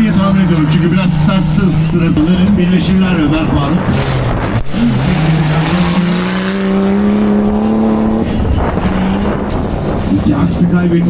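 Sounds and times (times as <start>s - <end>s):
off-road truck engine revving: 0.0s - 11.0s.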